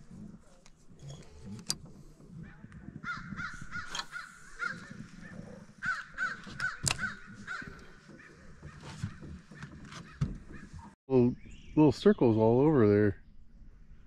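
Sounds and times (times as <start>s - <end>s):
bird calling: 0.0s - 12.2s.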